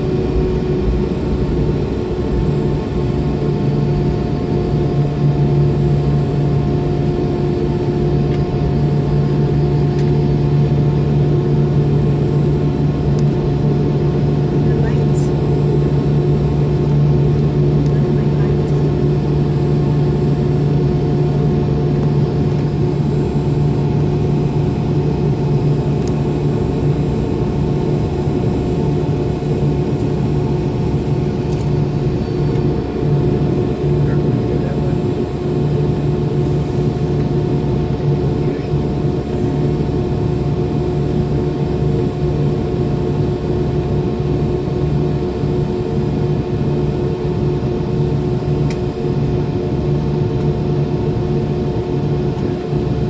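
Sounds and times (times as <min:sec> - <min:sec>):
jet engines humming: 0:00.0 - 0:53.0.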